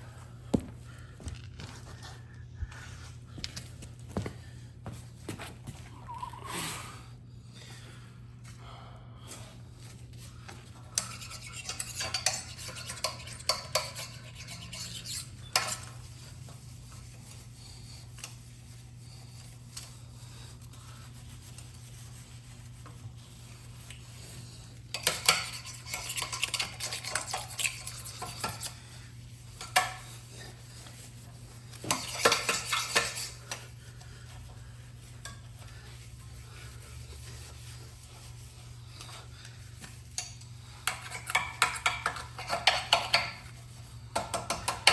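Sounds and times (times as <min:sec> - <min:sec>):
steady low hum: 0:00.0 - 0:44.3.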